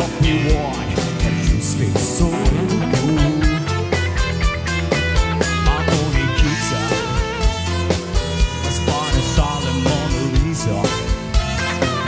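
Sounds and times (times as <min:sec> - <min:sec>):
bass: 0:00.0 - 0:12.0
drum kit beat: 0:00.0 - 0:12.0
electric guitar: 0:00.0 - 0:12.0
keyboard: 0:00.0 - 0:12.0.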